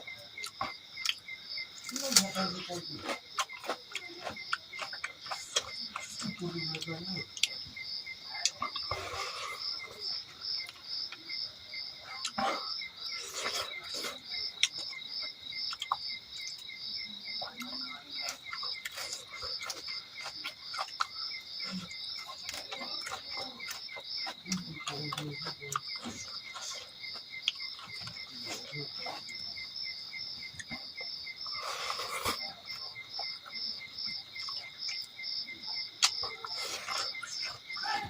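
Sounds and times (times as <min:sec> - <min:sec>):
insects chirping: 0:00.0 - 0:38.0
soft eating sounds: 0:00.0 - 0:38.0.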